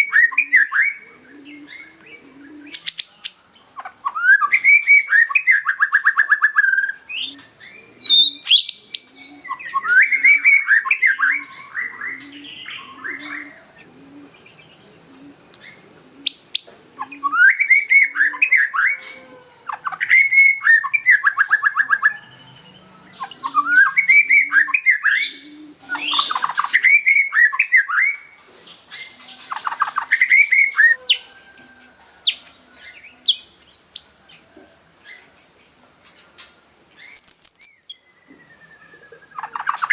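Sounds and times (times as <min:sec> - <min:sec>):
bird singing whistled trills: 0:00.0 - 0:14.8, 0:15.5 - 0:34.2, 0:36.9 - 0:39.9.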